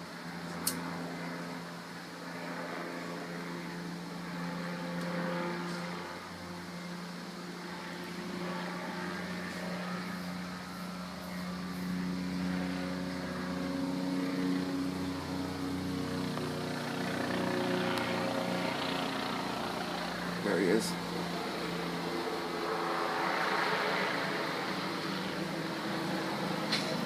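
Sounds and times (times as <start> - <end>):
helicopter flying overhead: 0.0 - 27.0.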